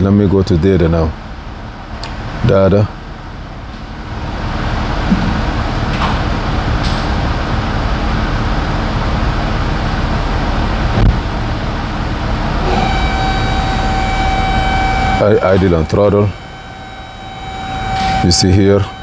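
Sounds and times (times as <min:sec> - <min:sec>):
car engine idling: 0:00.9 - 0:19.0.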